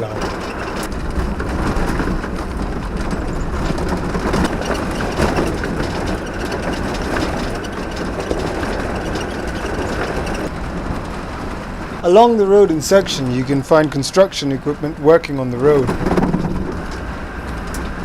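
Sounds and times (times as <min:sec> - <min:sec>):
engine and tyres on gravel: 0:00.0 - 0:18.0
vehicle body rattling and knocking: 0:00.0 - 0:18.0.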